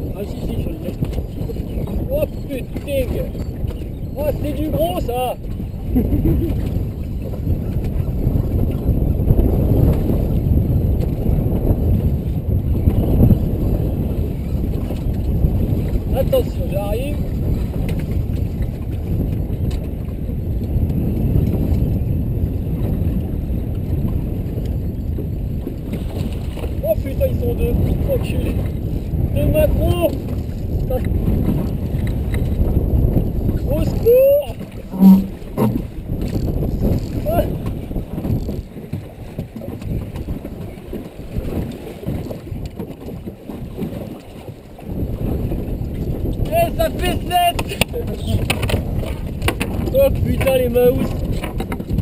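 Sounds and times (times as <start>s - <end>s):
choppy sea washing around boat: 0.0s - 52.0s
wind buffeting microphone: 0.0s - 52.0s.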